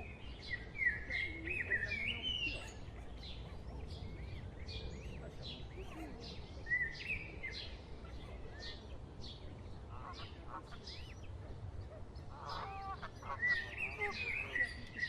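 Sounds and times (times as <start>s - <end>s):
birds chirping: 0.0s - 15.0s
fuller bird calls: 0.0s - 15.0s.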